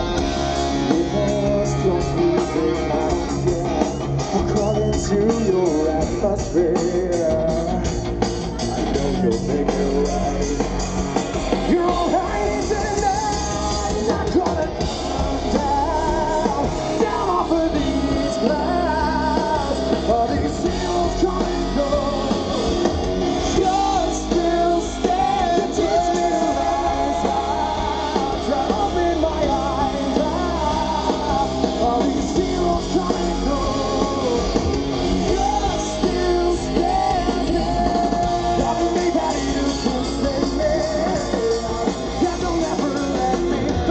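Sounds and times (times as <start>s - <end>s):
electric guitar: 0.0s - 43.9s
man singing: 0.0s - 43.9s
rock band playing: 0.0s - 43.9s.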